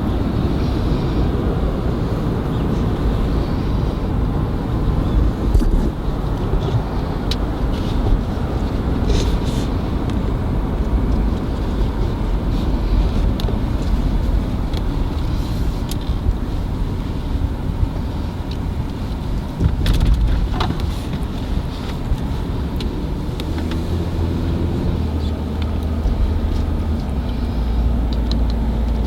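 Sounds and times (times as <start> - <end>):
car road rumble: 0.0 - 29.0.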